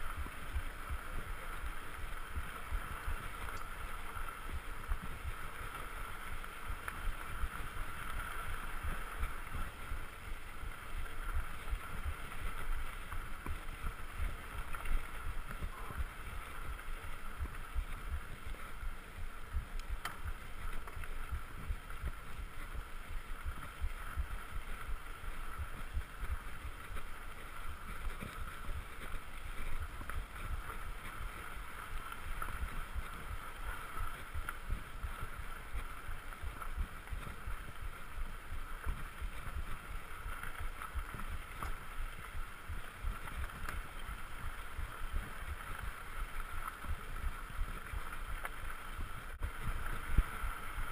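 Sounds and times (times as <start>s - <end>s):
bike tyres rolling on dirt: 0.0s - 50.9s
wind buffeting camera: 0.0s - 50.9s.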